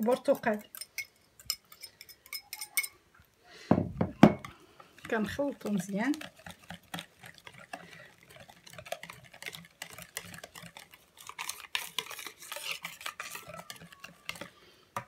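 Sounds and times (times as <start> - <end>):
whisk beating batter in plastic bowl: 0.0 - 1.6, 4.4 - 15.0.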